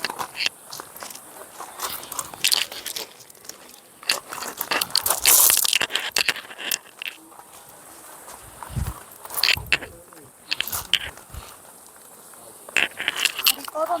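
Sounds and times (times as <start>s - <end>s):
crunching and scraping: 0.0s - 14.0s.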